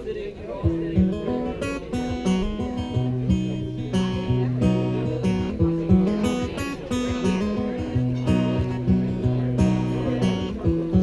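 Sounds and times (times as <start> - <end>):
acoustic guitar strumming: 0.4 - 11.0.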